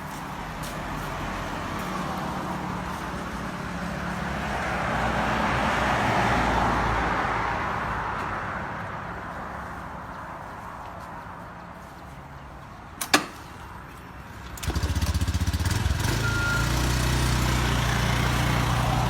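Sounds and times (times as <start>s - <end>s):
road vehicle passing by: 0.0s - 19.0s.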